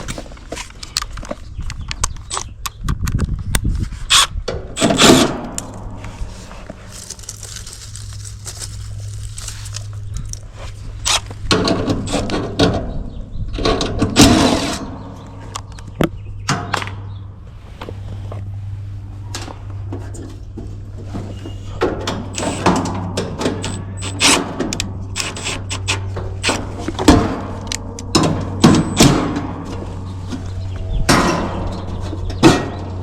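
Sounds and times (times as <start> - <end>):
steady low hum: 3.6 - 33.0.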